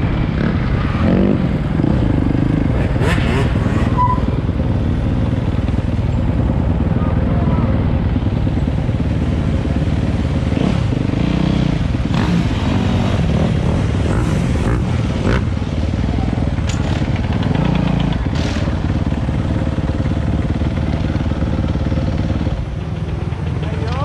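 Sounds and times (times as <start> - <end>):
dirt bike engines running: 0.0 - 24.0.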